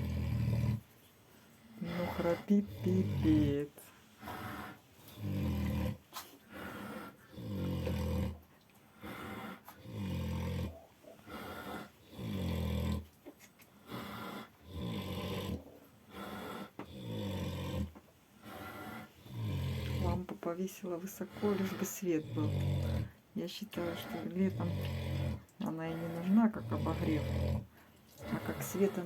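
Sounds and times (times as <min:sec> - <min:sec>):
pig snoring heavily: 0:00.0 - 0:00.8, 0:01.8 - 0:13.1, 0:13.8 - 0:29.0
quiet breathing: 0:01.2 - 0:13.0, 0:13.6 - 0:29.0.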